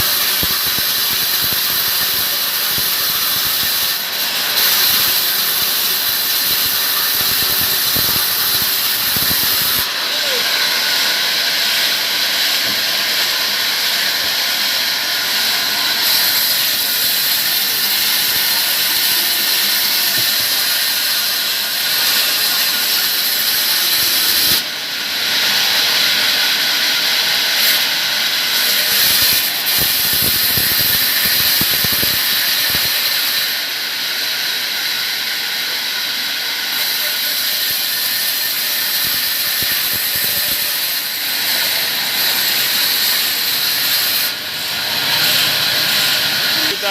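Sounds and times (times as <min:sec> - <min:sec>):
saw cutting wood: 0:00.0 - 0:46.9.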